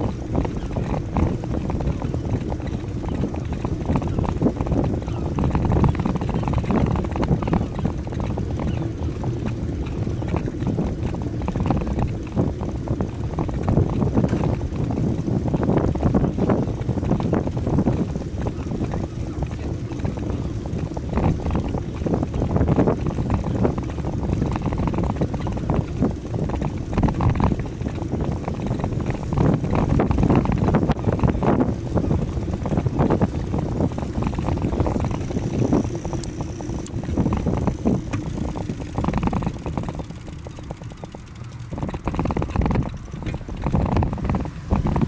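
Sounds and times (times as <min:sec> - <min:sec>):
road noise: 0:00.0 - 0:45.0
wind buffeting microphone: 0:00.0 - 0:45.0.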